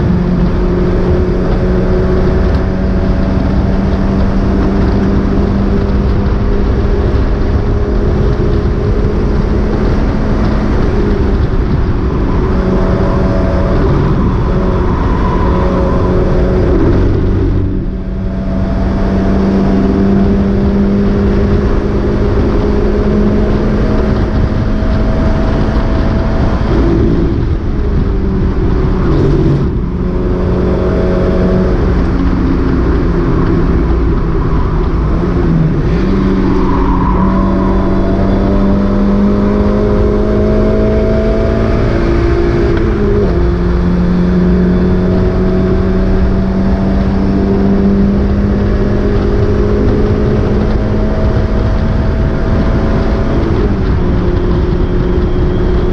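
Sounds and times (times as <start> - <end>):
race car engine revving hard: 0.0 - 55.9.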